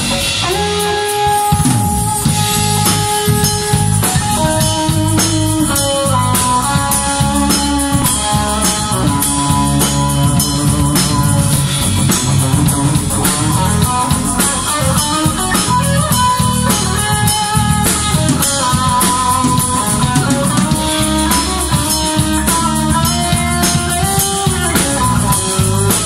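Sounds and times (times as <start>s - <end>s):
bass guitar: 0.0s - 26.0s
drum kit steady beat: 0.0s - 26.0s
electric guitar bending notes: 0.0s - 26.0s.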